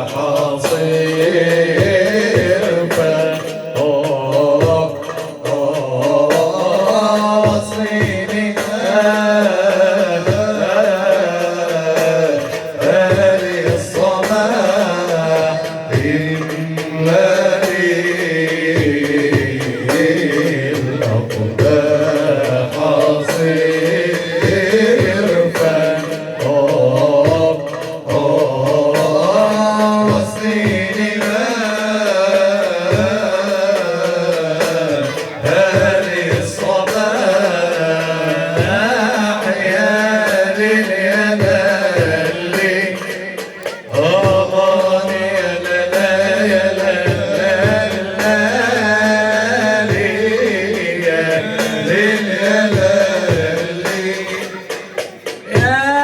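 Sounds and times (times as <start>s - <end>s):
ensemble singing melodic lines: 0.0s - 56.0s
hand-drum beats: 0.0s - 56.0s.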